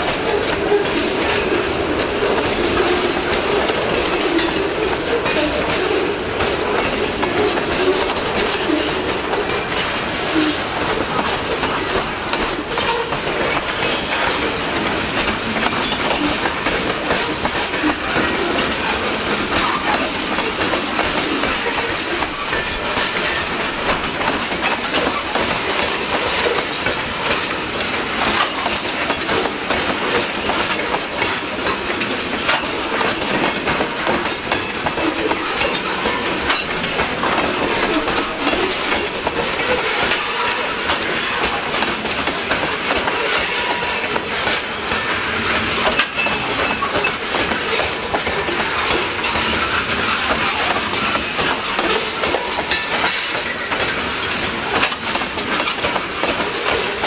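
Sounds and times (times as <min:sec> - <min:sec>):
freight train cars rolling: 0:00.0 - 0:57.0
wheels clacking over rail joints: 0:00.0 - 0:57.0.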